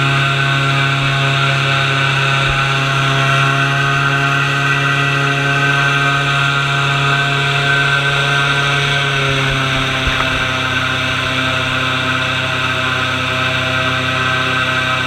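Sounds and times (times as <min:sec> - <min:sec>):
airboat engine and propeller drone: 0:00.0 - 0:15.0.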